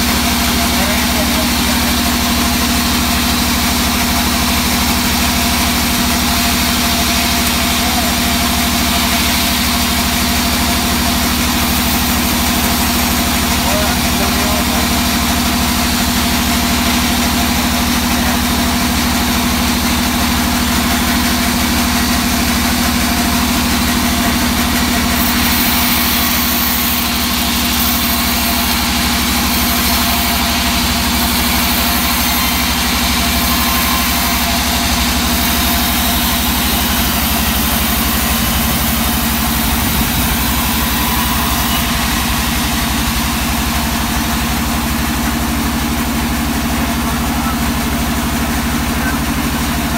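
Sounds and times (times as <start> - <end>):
band saw cutting wood: 0.0 - 49.9.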